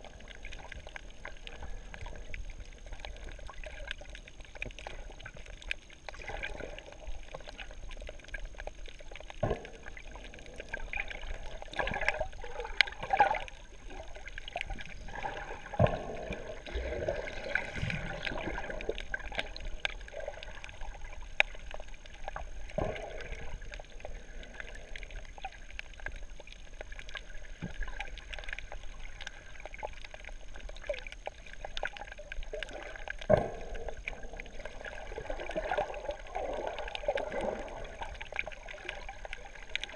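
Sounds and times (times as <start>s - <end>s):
underwater breathing bubbles: 0.0s - 39.9s.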